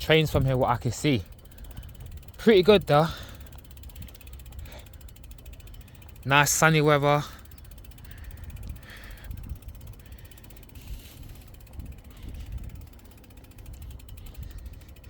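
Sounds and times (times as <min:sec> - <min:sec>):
bicycle freewheel ticking: 0:00.0 - 0:15.0.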